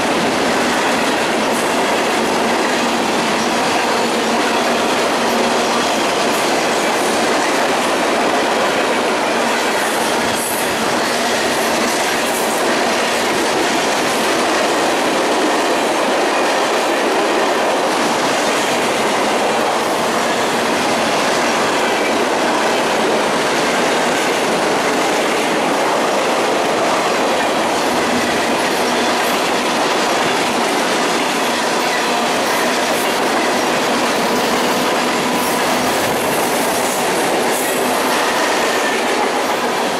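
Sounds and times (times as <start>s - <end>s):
freight train rolling past: 0.0s - 39.9s
steel wheels on rail joints: 0.0s - 39.9s.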